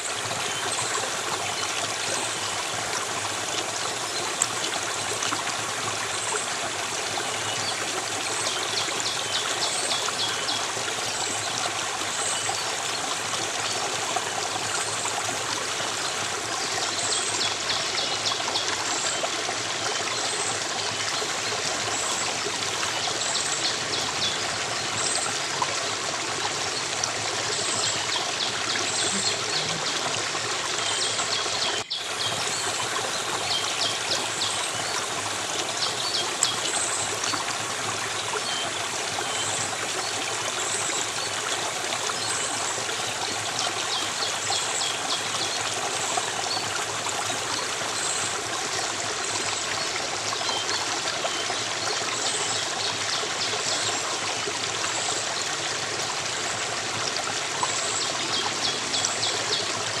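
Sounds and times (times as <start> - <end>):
stream of water flowing: 0.0 - 60.0.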